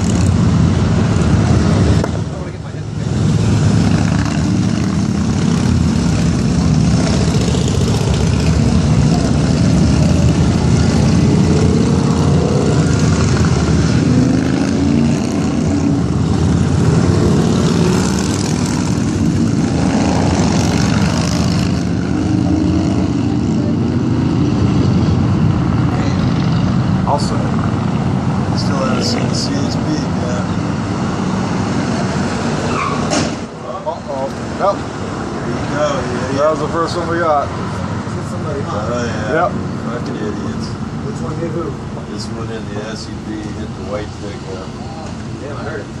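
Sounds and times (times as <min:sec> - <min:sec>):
motorcycles riding past: 0:00.0 - 0:40.7
cars passing: 0:00.0 - 0:46.0.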